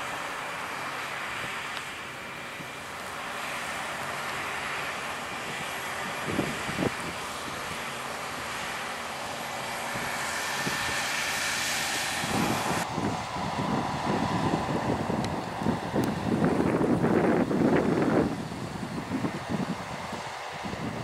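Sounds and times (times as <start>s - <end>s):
combine harvester roaring: 0.0s - 21.0s.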